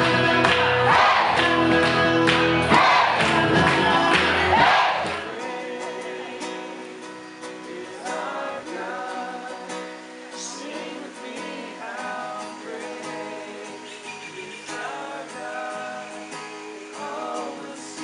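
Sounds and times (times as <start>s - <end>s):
people singing: 0.0s - 18.0s
strummed acoustic guitar: 0.0s - 18.0s.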